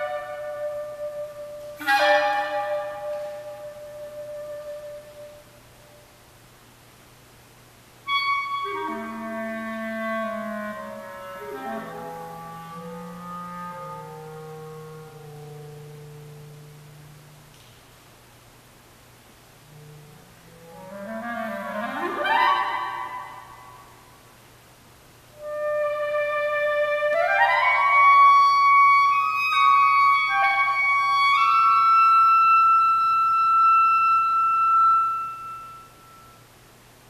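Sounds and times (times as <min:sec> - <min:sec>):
solo clarinet playing: 0:00.0 - 0:06.0, 0:08.1 - 0:17.5, 0:19.6 - 0:23.9, 0:25.3 - 0:36.5.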